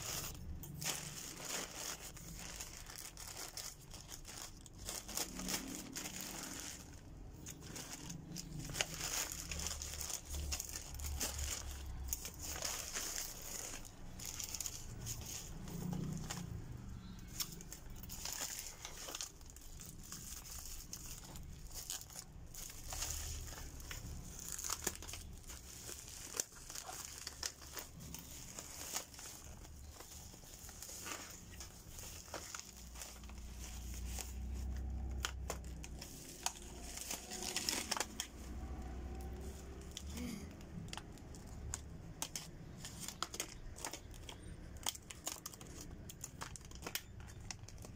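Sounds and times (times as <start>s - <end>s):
plastic packaging crinkling and tearing: 0.0s - 47.9s.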